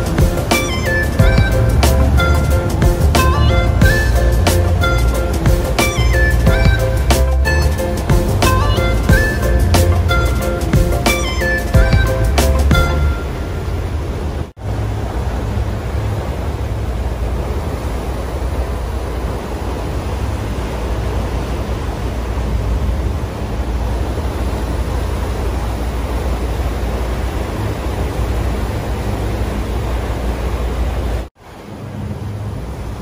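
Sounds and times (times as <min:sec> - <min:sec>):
boat engine rumble: 0:00.0 - 0:33.0
churning wake water: 0:00.0 - 0:33.0
wind: 0:00.0 - 0:33.0.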